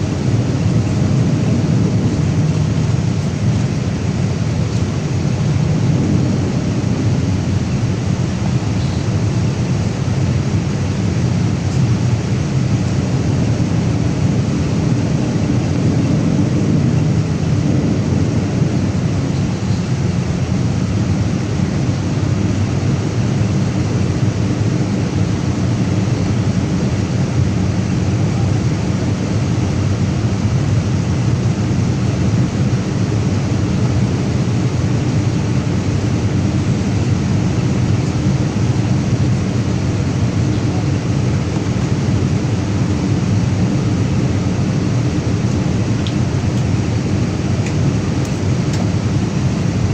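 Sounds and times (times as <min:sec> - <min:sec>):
airplane cabin engine rush: 0:00.0 - 0:49.9.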